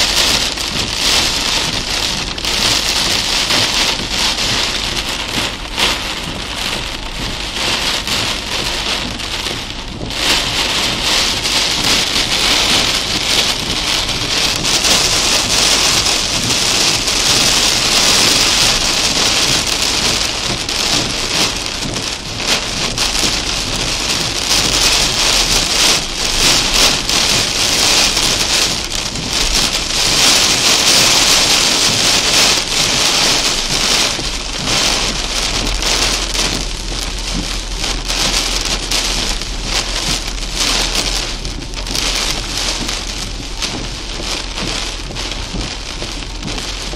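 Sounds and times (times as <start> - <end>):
heavy rain drumming on car roof: 0.0 - 46.9.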